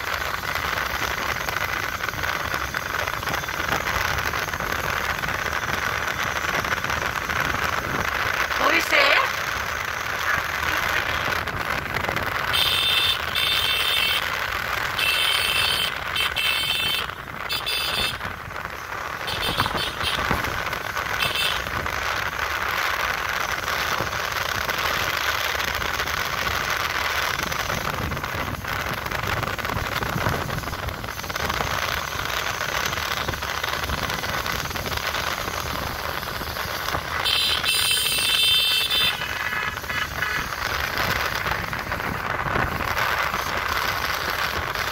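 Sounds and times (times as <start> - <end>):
motorcycle engine riding: 0.0 - 44.9
wind noise: 0.0 - 44.9.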